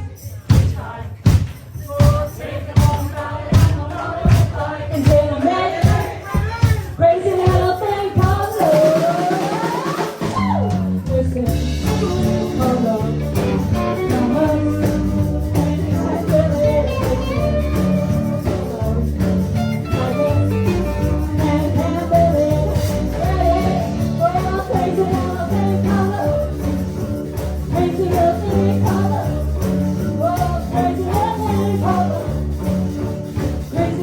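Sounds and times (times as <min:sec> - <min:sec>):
live band playing: 0:02.4 - 0:34.0
person singing: 0:04.6 - 0:32.7.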